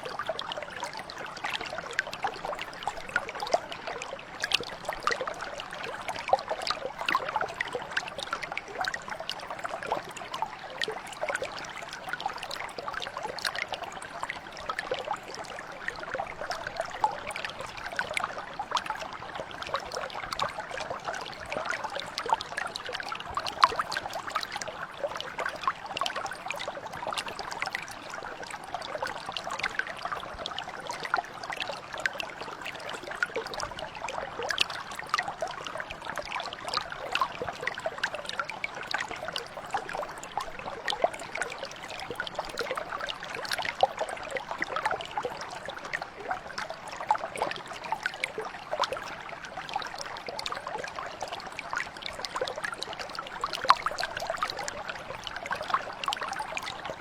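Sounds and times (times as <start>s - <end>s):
brook water burbling over stones: 0.0s - 57.0s.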